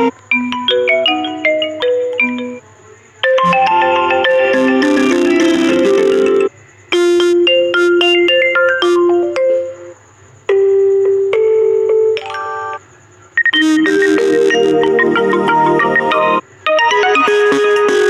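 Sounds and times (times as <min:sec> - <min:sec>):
phone ringtone melodies: 0:00.0 - 0:02.6, 0:03.2 - 0:10.0, 0:11.3 - 0:12.8, 0:13.4 - 0:18.0.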